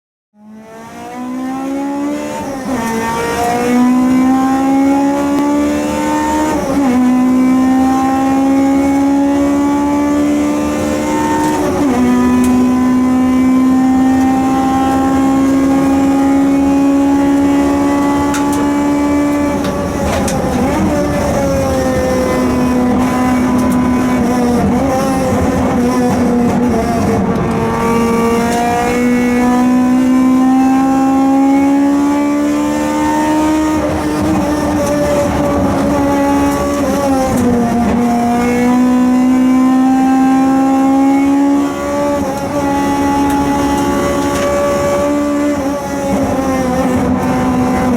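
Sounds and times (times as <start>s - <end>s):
car engine at full throttle: 0.4s - 47.9s.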